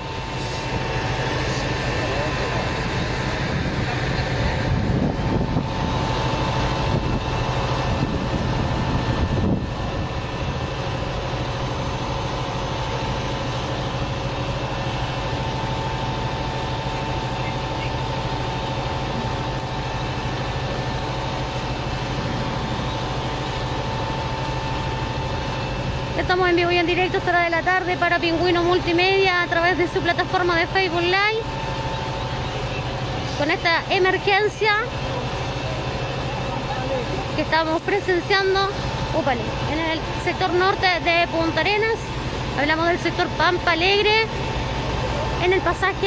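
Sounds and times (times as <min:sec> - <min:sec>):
fire engine idling drone: 0:00.0 - 0:46.0
uneven low rumbling: 0:00.0 - 0:46.0.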